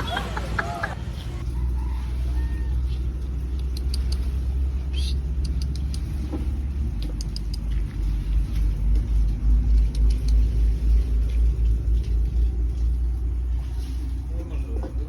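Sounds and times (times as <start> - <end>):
low uneven rumble: 0.0 - 15.0.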